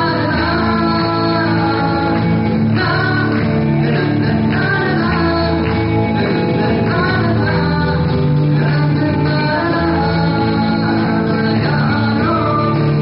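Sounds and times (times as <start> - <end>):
electric lead guitar: 0.0 - 13.0
man singing into a microphone: 0.0 - 13.0
strummed acoustic guitar: 0.0 - 13.0.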